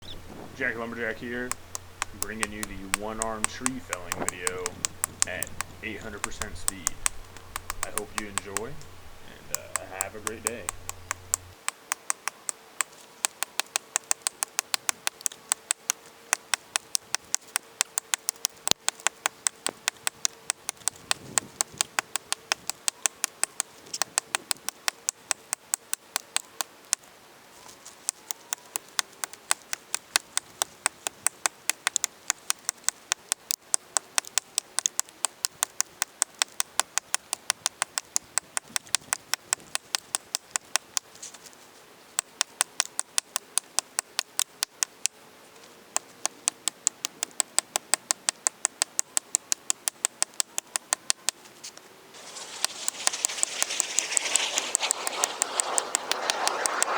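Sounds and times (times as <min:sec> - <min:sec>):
sped-up axe chopping clicks: 0:00.0 - 0:27.1, 0:27.9 - 0:41.3, 0:42.2 - 0:51.6, 0:52.2 - 0:56.9.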